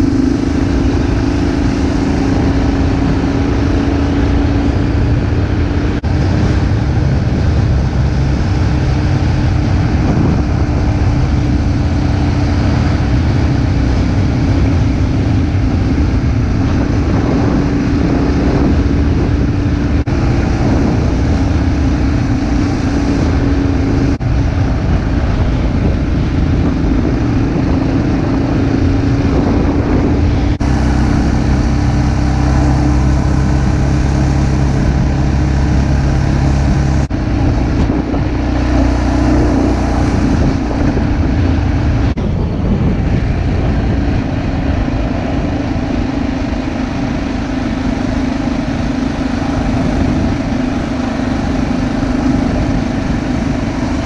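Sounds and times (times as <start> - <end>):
tyre and road noise: 0.0 - 54.0
vehicle engine running: 0.0 - 54.0.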